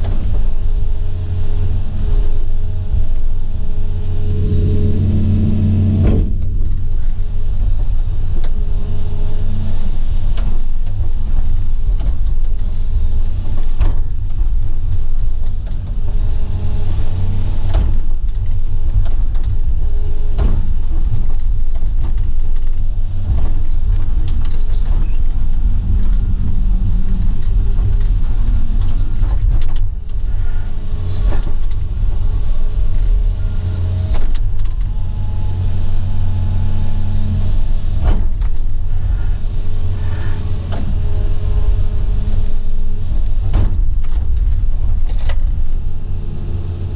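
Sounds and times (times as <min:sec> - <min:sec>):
excavator diesel engine: 0:00.0 - 0:46.9.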